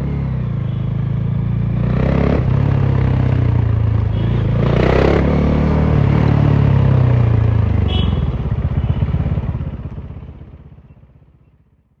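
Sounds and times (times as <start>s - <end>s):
unmuffled motorcycle engine: 0.0s - 12.0s.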